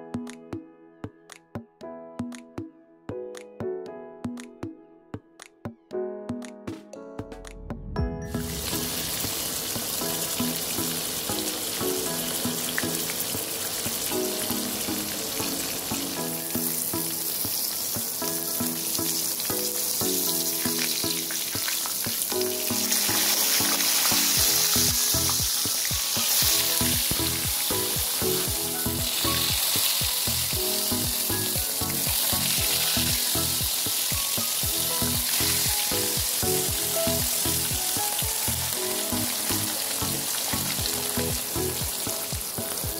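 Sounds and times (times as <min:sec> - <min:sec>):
background music: 0:00.0 - 0:42.9
fish sizzling in hot oil: 0:08.4 - 0:42.9.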